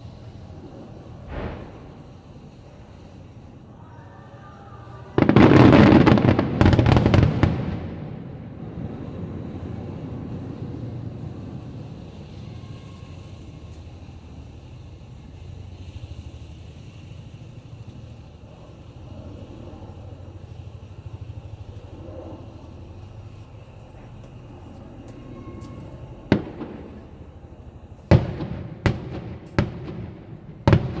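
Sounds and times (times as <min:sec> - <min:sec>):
rumbling echo: 0:00.0 - 0:17.6, 0:18.2 - 0:31.0
fireworks crackling bursts: 0:00.0 - 0:31.0.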